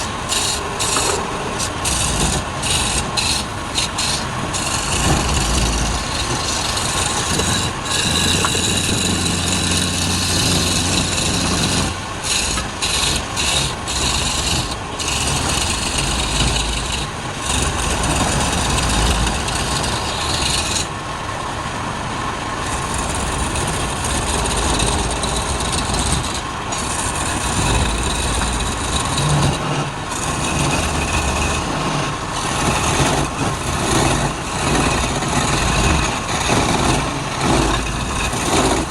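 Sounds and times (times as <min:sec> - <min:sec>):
turning tool cutting spinning wood: 0:00.0 - 0:21.2, 0:22.3 - 0:38.9
lathe motor humming: 0:00.0 - 0:38.9.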